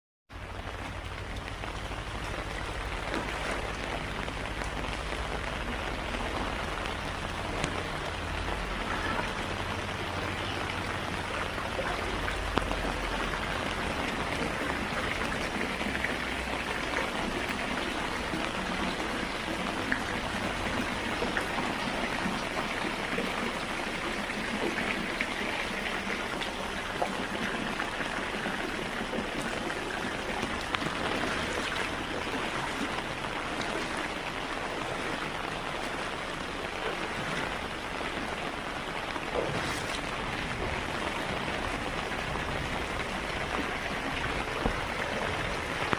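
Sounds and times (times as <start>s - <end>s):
heavy rain falling: 0.3s - 45.9s.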